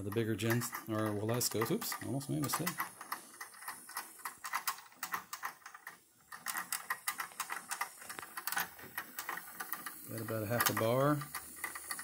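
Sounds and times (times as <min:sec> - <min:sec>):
boiler ticking and clicking: 0:00.0 - 0:12.0.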